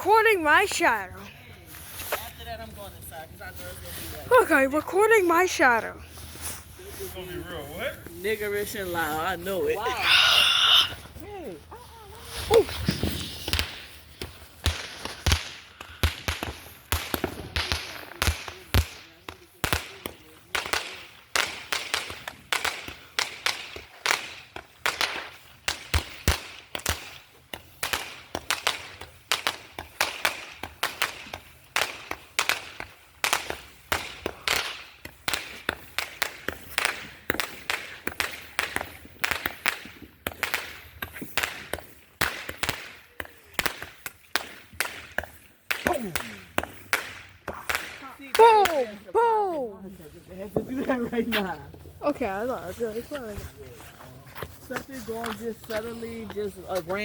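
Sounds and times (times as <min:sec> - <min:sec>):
fireworks bangs and cracks: 0:00.0 - 0:01.2, 0:12.1 - 0:57.0.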